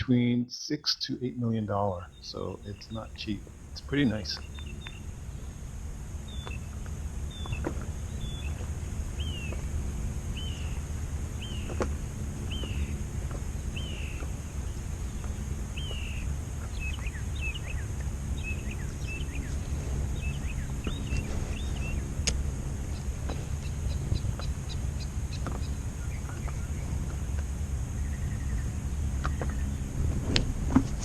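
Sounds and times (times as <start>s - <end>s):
bird calling: 0.0s - 29.8s
steady low rumble: 0.0s - 31.0s.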